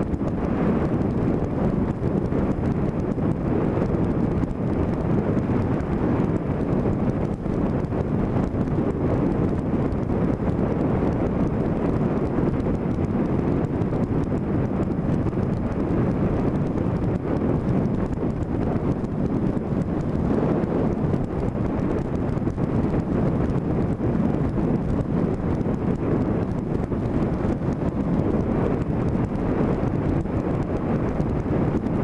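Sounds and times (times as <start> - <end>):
wind noise on microphone: 0.0 - 32.0.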